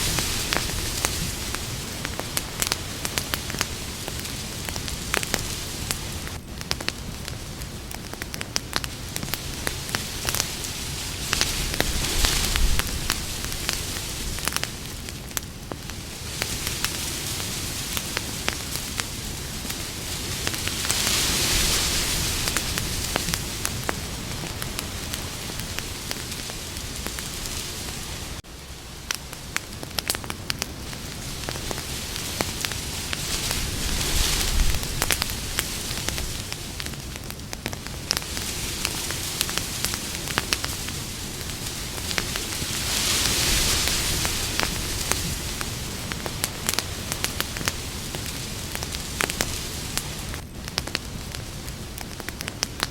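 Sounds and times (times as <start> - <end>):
campfire crackling and popping: 0.0 - 52.9
steady hiss: 0.0 - 52.9.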